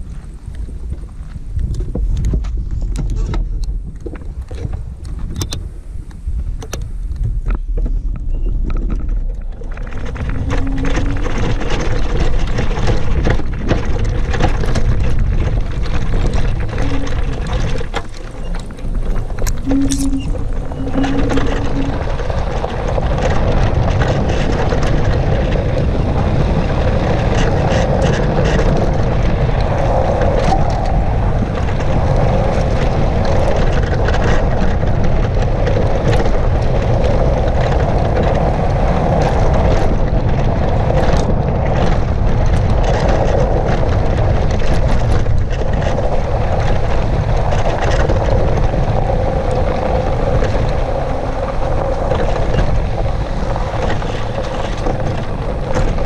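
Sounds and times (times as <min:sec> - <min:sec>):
clicks and rattles from bumps: 0:00.0 - 0:56.0
tyres rumbling over dirt: 0:00.0 - 0:56.0
wind buffeting microphone: 0:00.0 - 0:56.0.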